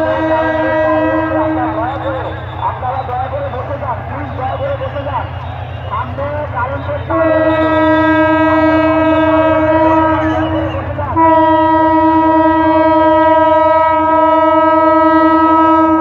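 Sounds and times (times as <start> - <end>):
diesel locomotive horn blowing: 0.0 - 16.0.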